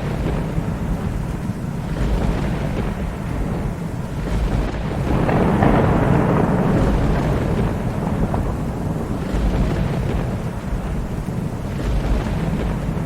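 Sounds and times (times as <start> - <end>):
rolling thunder: 0.0 - 13.0
steady rain: 0.0 - 13.0.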